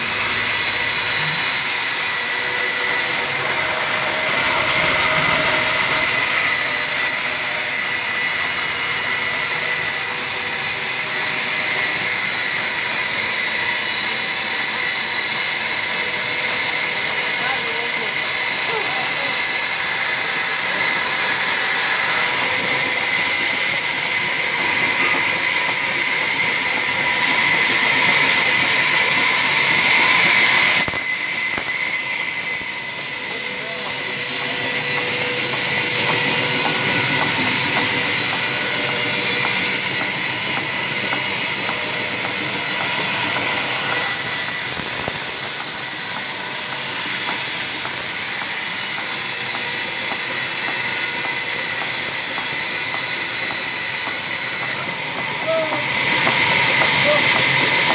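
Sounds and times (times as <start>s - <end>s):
band saw ripping through log: 0.0s - 54.8s
saw blade whine: 0.0s - 57.9s.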